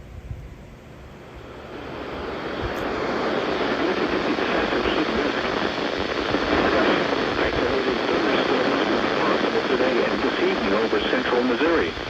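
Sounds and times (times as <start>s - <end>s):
radio static hiss: 1.2s - 12.0s.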